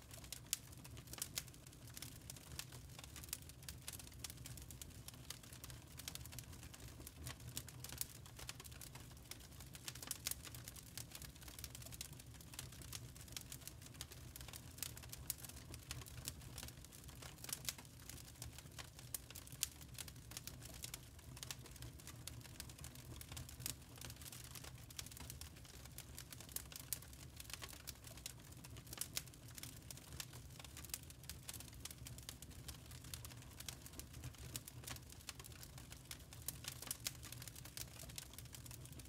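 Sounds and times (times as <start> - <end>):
charcoal crackling and popping: 0.1 - 39.0.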